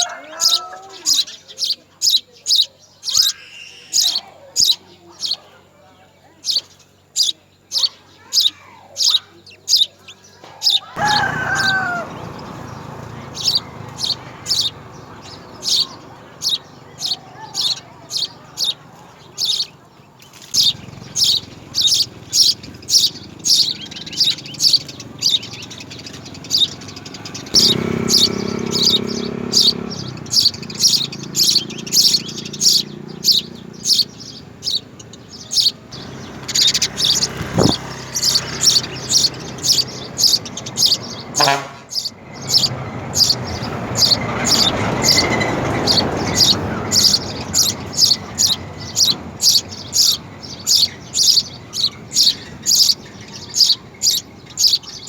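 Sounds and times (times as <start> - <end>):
sparrow chirping: 0.0 - 55.0.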